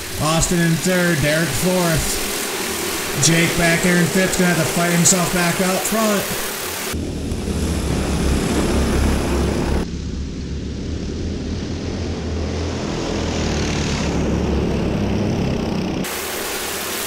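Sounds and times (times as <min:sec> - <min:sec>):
go-kart engines buzzing: 0:00.0 - 0:16.1.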